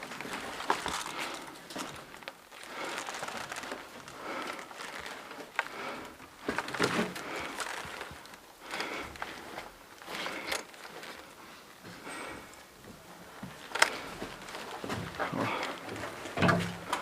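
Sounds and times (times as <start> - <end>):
clothing and gear rustling: 0.0 - 17.0.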